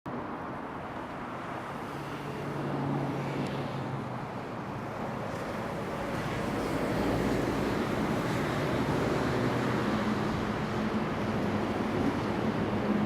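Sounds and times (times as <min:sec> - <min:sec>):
distant road traffic: 0:00.1 - 0:13.0
passing vehicle hum: 0:00.1 - 0:13.0.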